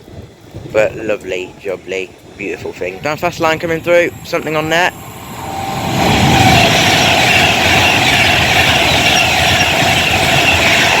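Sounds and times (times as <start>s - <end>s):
rail noise: 0.0s - 11.0s
train passing at speed: 0.0s - 11.0s.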